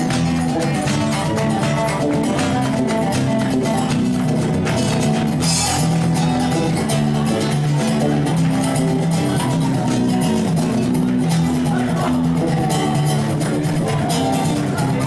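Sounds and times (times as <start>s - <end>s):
acoustic guitar strumming: 0.0s - 15.0s
bass notes from guitar: 0.0s - 15.0s.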